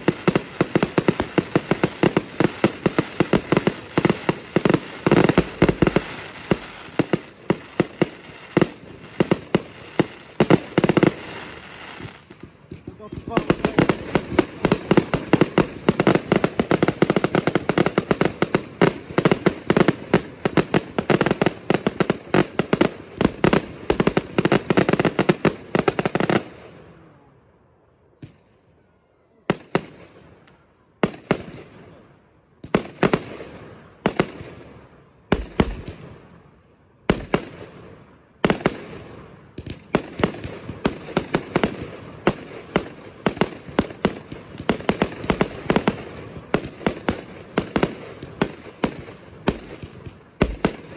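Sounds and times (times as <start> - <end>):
fireworks bangs: 0.0 - 26.8, 32.6 - 36.4, 37.0 - 50.9.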